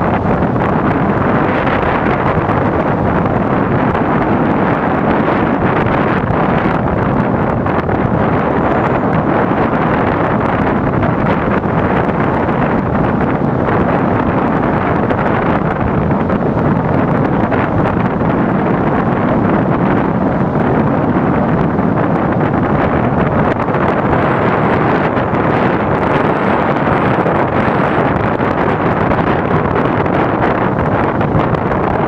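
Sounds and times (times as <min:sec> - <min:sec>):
strong wind on microphone: 0:00.0 - 0:32.0.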